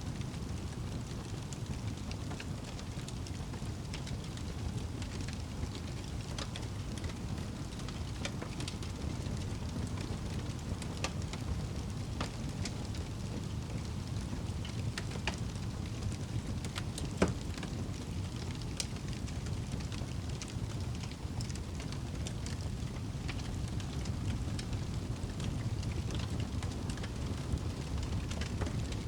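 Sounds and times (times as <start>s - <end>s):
low fire rumble: 0.0s - 29.0s
fire crackling: 0.1s - 29.0s.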